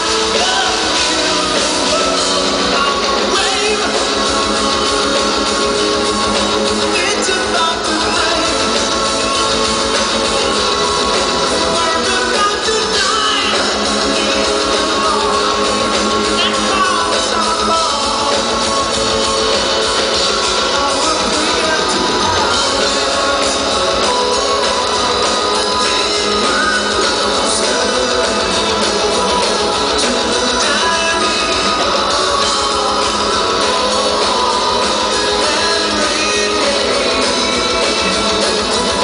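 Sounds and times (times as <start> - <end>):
drums: 0.0 - 39.0
electric guitar: 0.0 - 39.0
person singing: 0.0 - 39.0.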